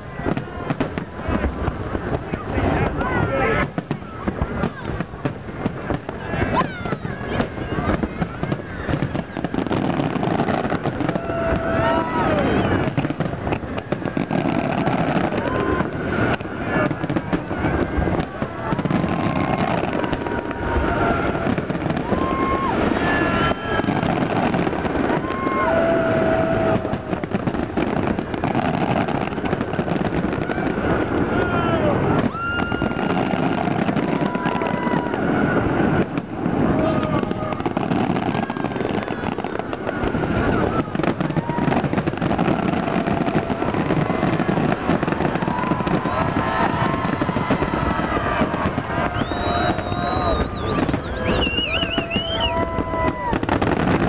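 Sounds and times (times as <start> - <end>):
fireworks bursting and crackling: 0.0 - 54.0
firework whistles: 0.1 - 54.0.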